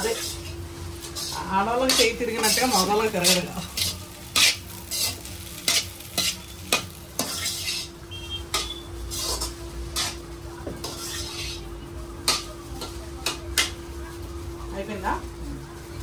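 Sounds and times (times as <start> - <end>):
spatula scraping a wok: 0.0 - 13.8
light sizzle: 0.0 - 16.0.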